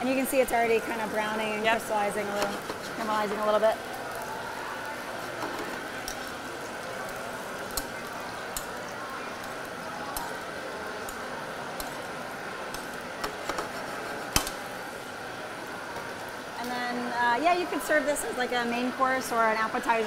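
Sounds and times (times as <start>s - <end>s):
carrots sizzling in a skillet: 0.0s - 20.0s.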